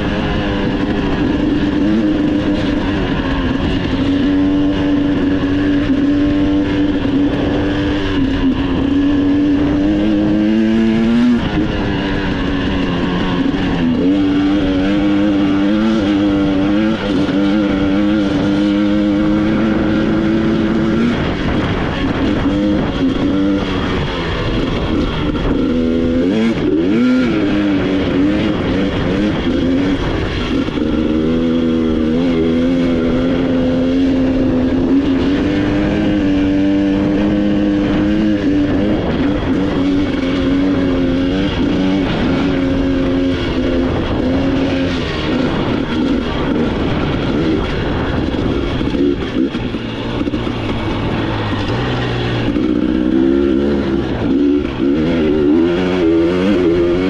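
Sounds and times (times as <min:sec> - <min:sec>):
noisy rumble: 0:00.0 - 0:57.0
off-road vehicle engine revving: 0:00.0 - 0:57.0.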